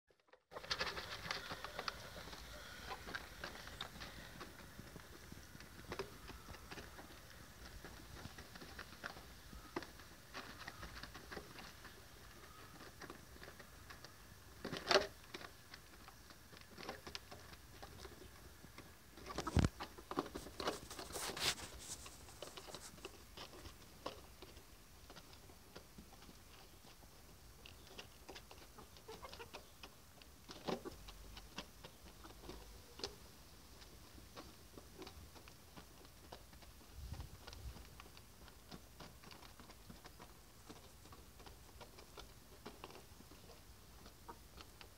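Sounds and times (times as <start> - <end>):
hens pecking beak taps: 0.5 - 44.9.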